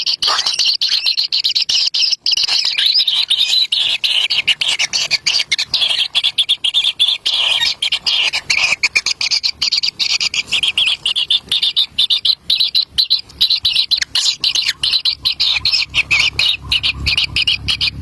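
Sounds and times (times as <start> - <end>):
chicks chirping: 0.0 - 18.0.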